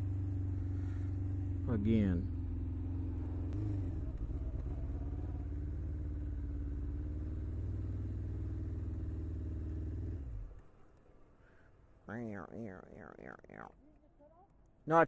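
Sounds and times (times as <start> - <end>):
motorcycle engine idling: 0.0 - 14.7.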